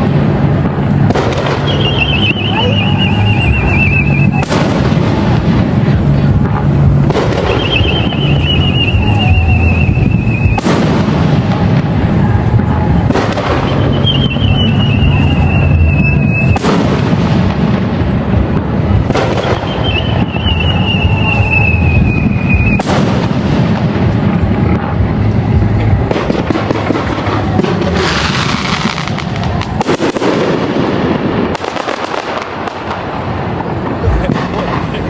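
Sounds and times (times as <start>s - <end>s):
firework whistle: 0.0s - 35.0s
fireworks shells booming: 0.0s - 35.0s.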